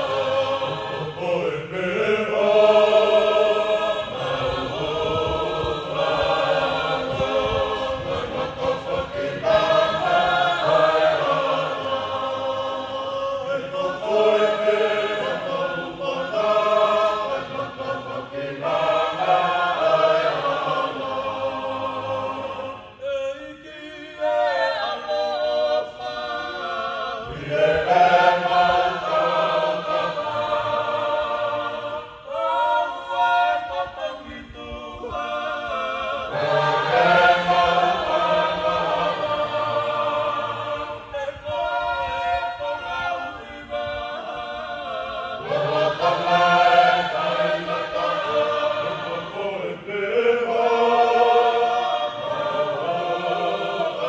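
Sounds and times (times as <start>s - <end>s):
mixed choir singing in parts: 0.0s - 54.0s.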